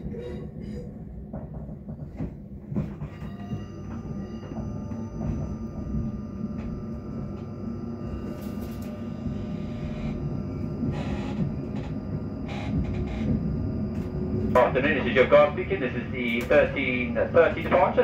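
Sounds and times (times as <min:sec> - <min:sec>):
train interior rumble: 0:00.0 - 0:18.0
faint whining tones: 0:00.1 - 0:18.0.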